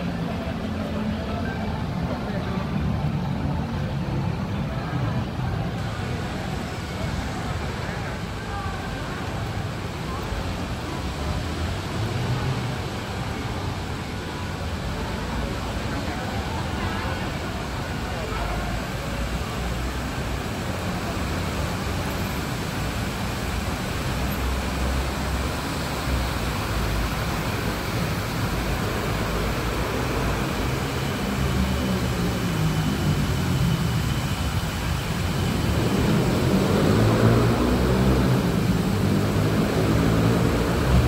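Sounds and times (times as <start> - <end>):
low traffic rumble: 0.0 - 41.0.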